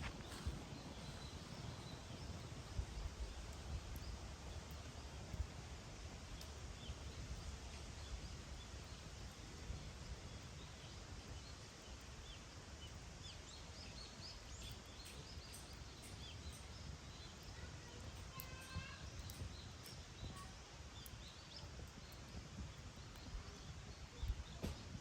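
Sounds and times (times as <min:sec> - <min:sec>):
small birds twittering: 0:00.0 - 0:05.4, 0:06.2 - 0:25.0
campfire crackles: 0:00.0 - 0:25.0.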